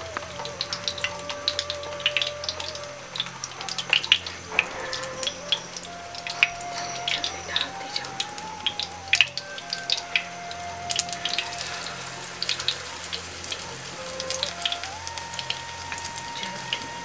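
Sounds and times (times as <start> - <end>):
potatoes frying in oil: 0.0 - 17.0.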